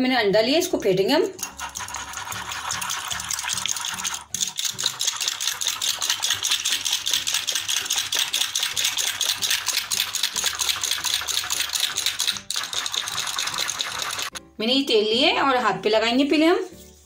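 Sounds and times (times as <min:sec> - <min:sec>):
whisk clicking against bowl: 0:00.6 - 0:14.4.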